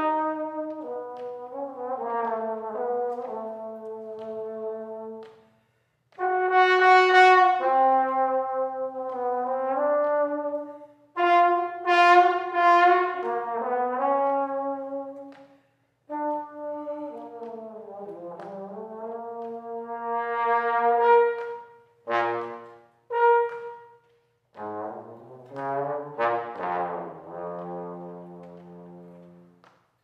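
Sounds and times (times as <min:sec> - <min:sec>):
solo trombone playing: 0:00.0 - 0:05.2, 0:06.2 - 0:15.3, 0:16.1 - 0:23.9, 0:24.5 - 0:29.6.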